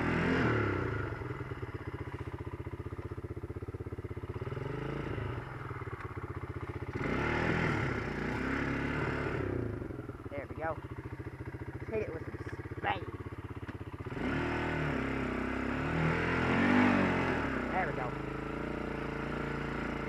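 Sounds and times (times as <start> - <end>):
quad engine revving: 0.0 - 2.4, 4.0 - 20.0.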